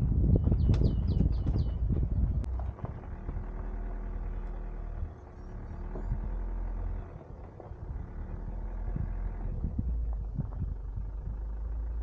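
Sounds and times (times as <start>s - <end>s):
van engine low rumble: 0.0s - 12.0s.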